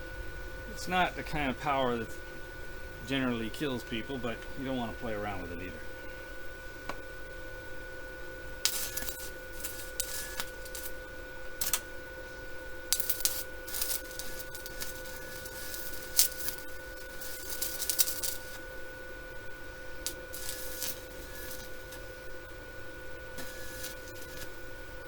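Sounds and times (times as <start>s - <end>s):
welding arc crackling and sizzling: 0.0s - 25.0s.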